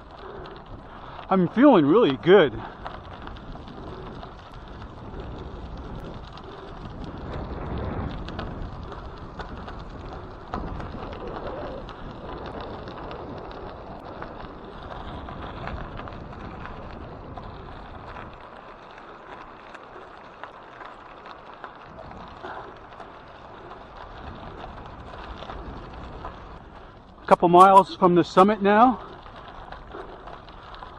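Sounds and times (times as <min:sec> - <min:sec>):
bicycle tyres crunching on gravel: 0:00.0 - 0:30.9
gravel ticks: 0:00.0 - 0:30.9.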